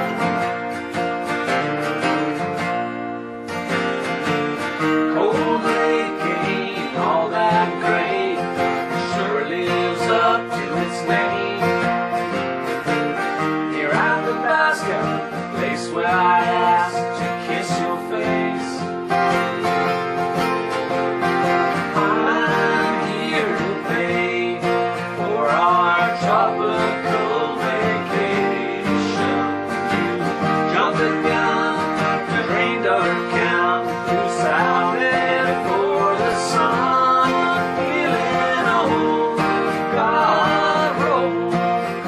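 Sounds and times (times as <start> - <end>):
strummed acoustic guitar: 0.0 - 42.0.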